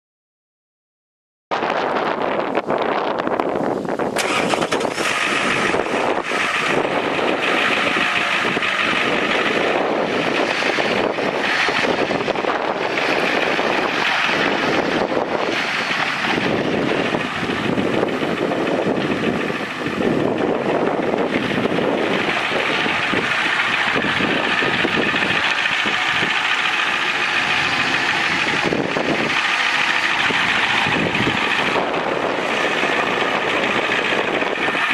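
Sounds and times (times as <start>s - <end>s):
diesel engine running: 1.6s - 34.9s.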